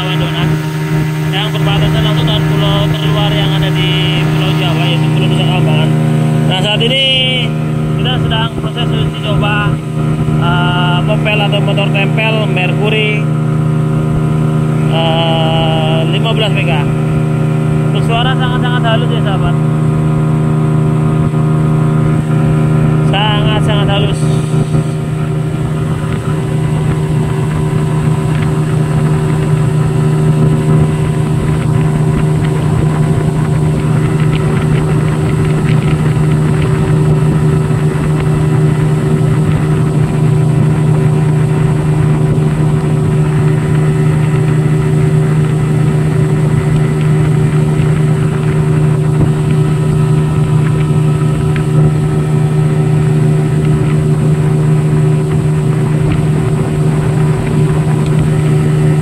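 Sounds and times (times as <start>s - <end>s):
outboard motor running: 0.0s - 59.0s
rush of boat wake: 0.0s - 59.0s.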